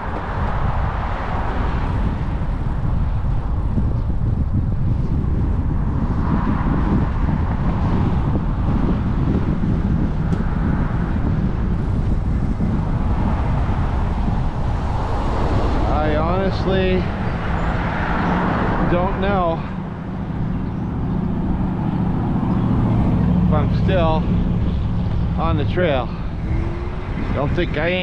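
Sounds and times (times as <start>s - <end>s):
bike tyre noise: 0.0s - 28.0s
wind rushing over microphone: 0.0s - 28.0s.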